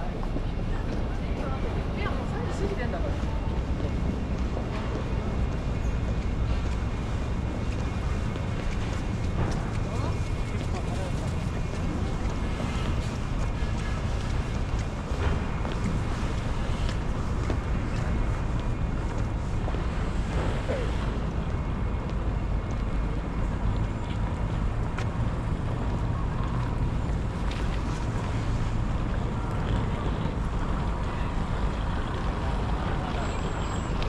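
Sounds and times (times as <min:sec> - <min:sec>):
city street rumble: 0:00.0 - 0:34.0.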